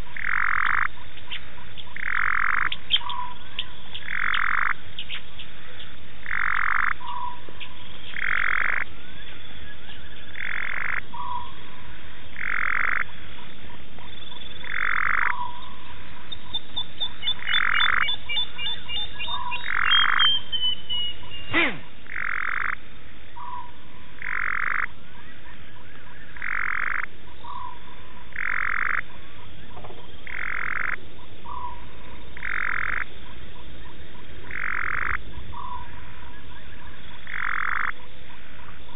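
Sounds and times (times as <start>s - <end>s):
frogs calling: 0.0s - 38.9s.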